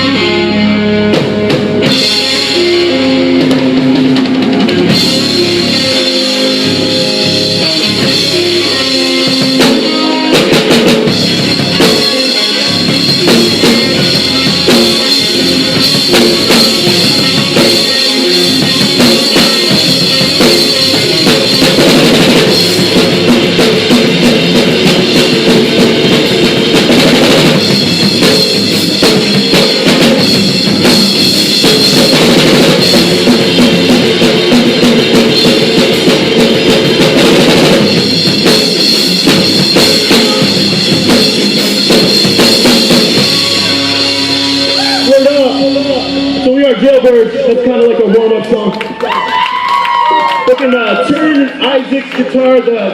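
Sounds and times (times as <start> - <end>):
electric guitar chords: 0.0 - 50.4
drum kit beat: 0.0 - 51.7
rock band playing live: 0.0 - 52.9.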